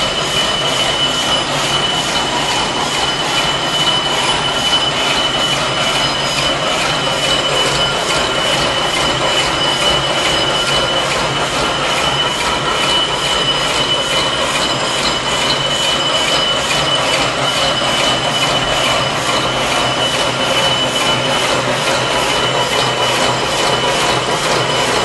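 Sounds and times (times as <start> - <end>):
high-pitched machine whine: 0.0 - 25.0
wire machine clatter: 0.0 - 25.0.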